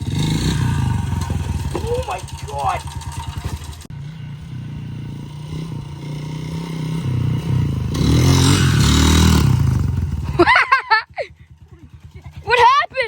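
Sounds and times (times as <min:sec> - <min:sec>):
small motorbike engine running: 0:00.0 - 0:13.0.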